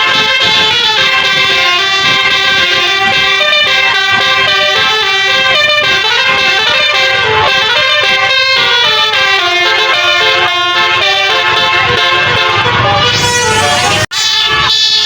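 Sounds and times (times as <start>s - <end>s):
musical bus air horn melody: 0.0s - 15.0s.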